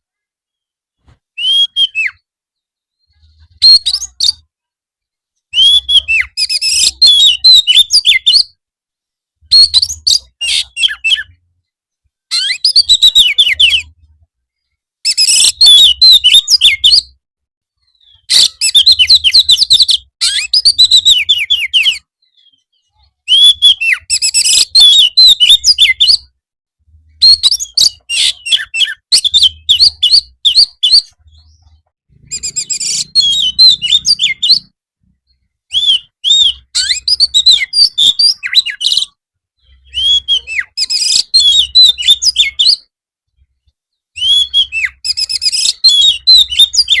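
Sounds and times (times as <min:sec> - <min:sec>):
bird whistles and trills: 0:00.5 - 0:04.4, 0:05.5 - 0:08.6, 0:09.4 - 0:11.4, 0:12.3 - 0:14.1, 0:15.0 - 0:17.2, 0:17.8 - 0:26.4, 0:27.2 - 0:42.9, 0:44.1 - 0:47.0.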